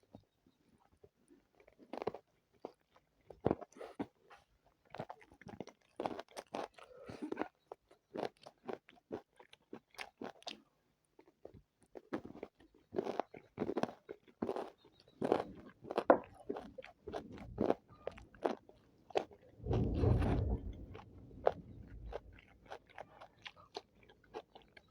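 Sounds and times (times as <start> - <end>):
crunching and chewing food: 0.0 - 19.8, 20.9 - 24.9.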